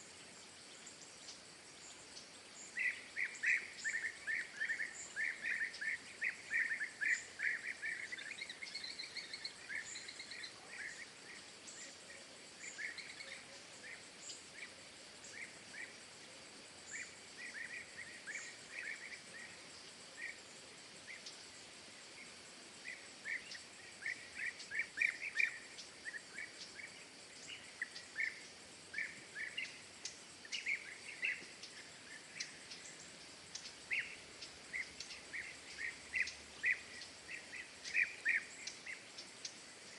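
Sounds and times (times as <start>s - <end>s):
faint high hiss: 0.0s - 39.9s
small birds chirping: 0.0s - 39.9s.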